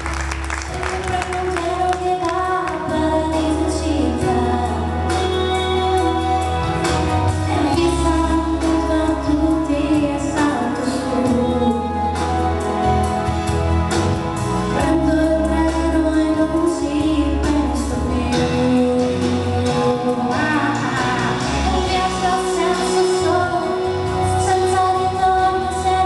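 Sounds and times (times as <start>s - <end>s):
amplified instrumental backing: 0.0s - 26.0s
woman singing into microphone: 0.7s - 12.6s, 14.7s - 26.0s.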